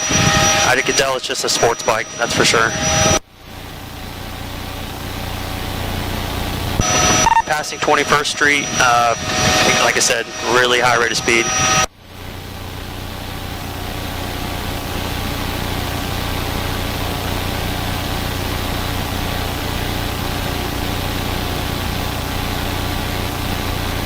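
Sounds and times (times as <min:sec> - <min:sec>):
helicopter engine and rotors droning: 0:00.0 - 0:24.0.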